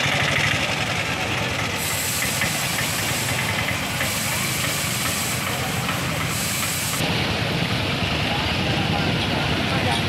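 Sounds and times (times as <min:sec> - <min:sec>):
small engines running: 0:00.0 - 0:10.0
wheels through water-filled potholes: 0:00.0 - 0:10.0.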